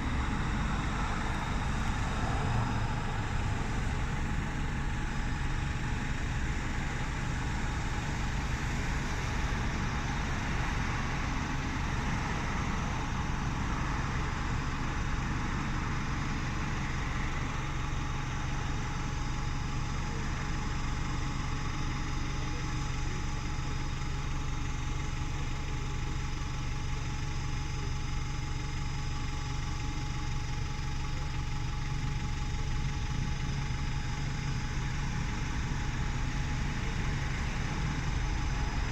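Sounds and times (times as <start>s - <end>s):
bus engine idling: 0.0s - 38.9s.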